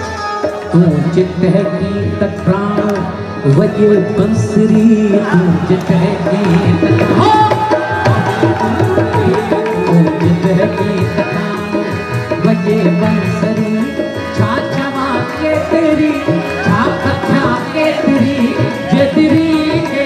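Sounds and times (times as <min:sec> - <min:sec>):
harmonium chords: 0:00.0 - 0:20.0
person singing: 0:00.0 - 0:20.0
tabla drumming: 0:00.0 - 0:20.0.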